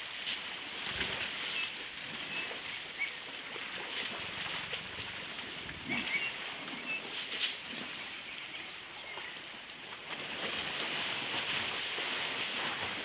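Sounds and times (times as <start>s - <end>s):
elephants splashing in water: 0.0s - 13.0s.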